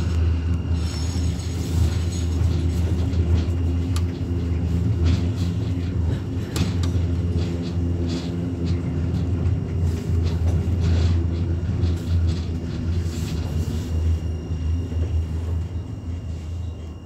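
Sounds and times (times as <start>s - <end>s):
tram running along track: 0.0s - 17.0s.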